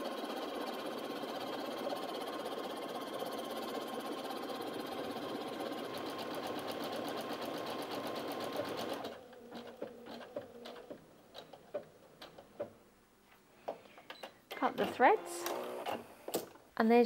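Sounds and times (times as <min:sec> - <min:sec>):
sewing machine stitching: 0:00.0 - 0:12.8, 0:14.5 - 0:16.6.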